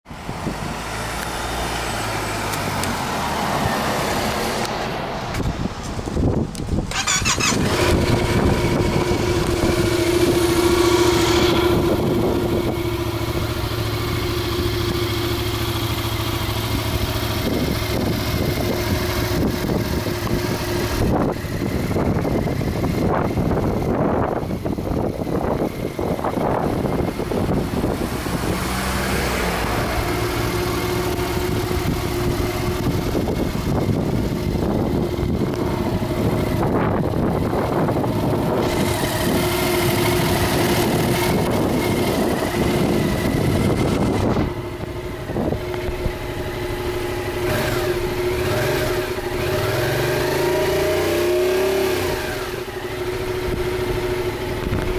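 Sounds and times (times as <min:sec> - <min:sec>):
motorcycle engine idling: 0:05.4 - 0:28.1, 0:29.8 - 0:50.6, 0:51.9 - 0:54.9.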